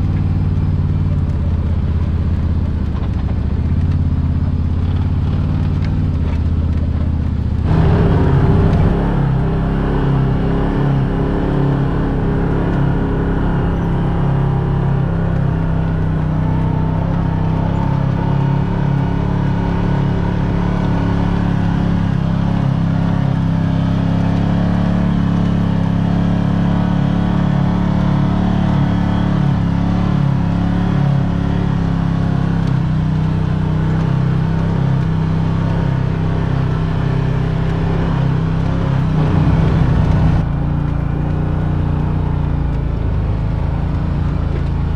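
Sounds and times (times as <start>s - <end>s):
utility vehicle engine running: 0.0s - 44.9s.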